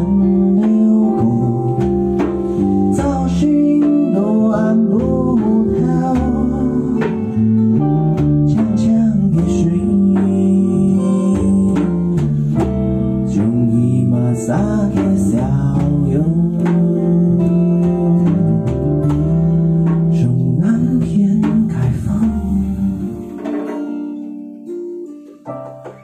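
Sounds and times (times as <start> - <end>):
man singing: 0.0 - 23.5
electric bass: 0.0 - 24.8
electric guitar: 0.0 - 26.0
strummed acoustic guitar: 0.0 - 26.0.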